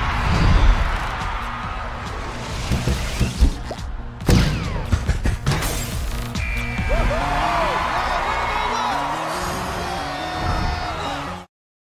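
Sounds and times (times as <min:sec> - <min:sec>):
film soundtrack music: 0:00.0 - 0:11.5.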